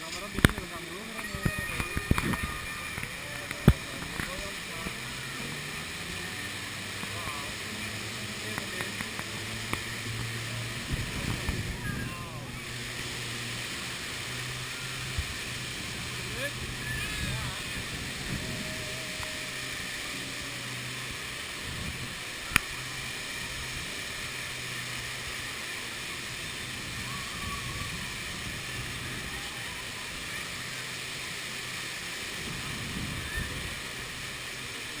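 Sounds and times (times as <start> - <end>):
fountain water jets spraying: 0.0 - 35.0.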